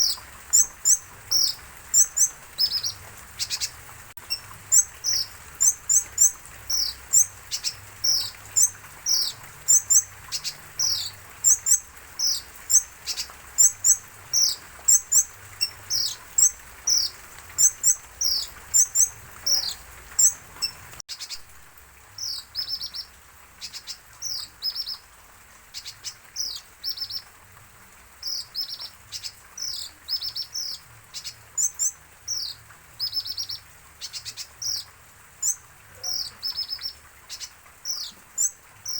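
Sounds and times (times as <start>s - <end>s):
sunbird chirping: 0.0s - 21.4s, 28.2s - 38.9s.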